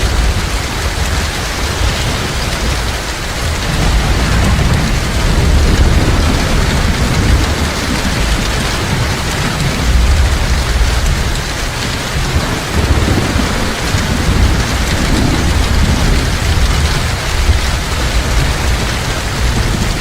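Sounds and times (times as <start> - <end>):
heavy rain falling: 0.0 - 20.0
rolling thunder rumble: 0.0 - 20.0.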